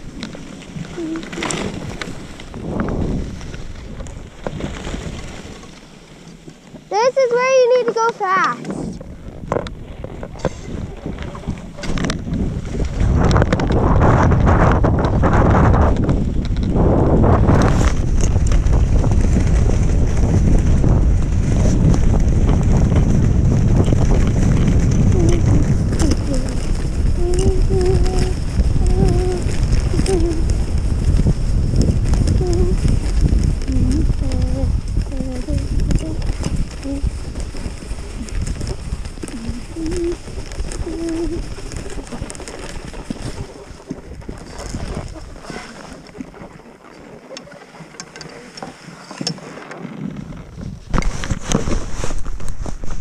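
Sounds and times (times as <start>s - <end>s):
wind buffeting microphone: 0.0s - 5.8s, 6.4s - 48.0s
skis sliding over snow: 0.0s - 53.0s.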